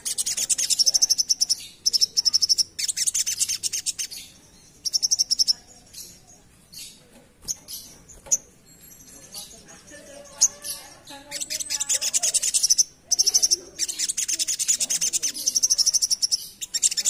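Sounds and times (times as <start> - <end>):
bird rapid trills: 0.0 - 17.0.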